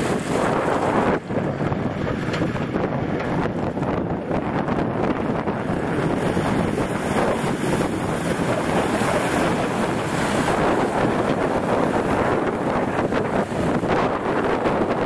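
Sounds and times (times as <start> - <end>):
off-road vehicle engine running: 0.0 - 15.0
wind buffeting microphone: 0.0 - 15.0.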